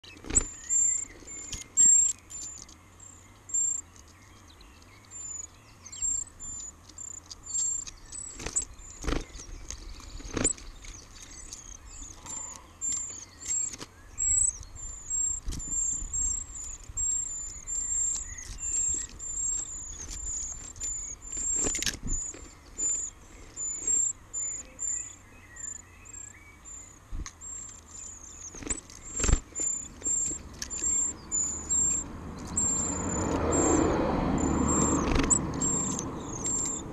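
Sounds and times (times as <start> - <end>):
nestlings begging calls: 0.0 - 36.9.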